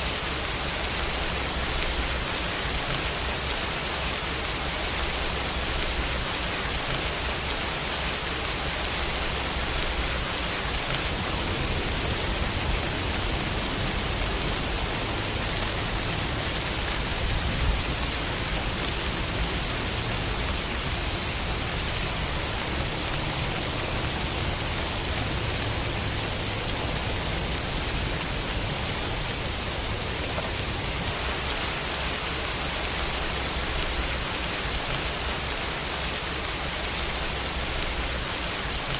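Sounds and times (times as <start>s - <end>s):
dense rainfall hiss: 0.0s - 38.9s.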